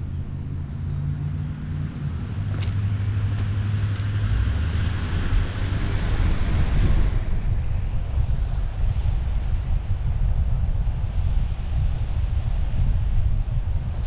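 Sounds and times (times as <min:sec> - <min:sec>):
car engine hum: 0:00.0 - 0:14.0
wind: 0:00.0 - 0:14.0.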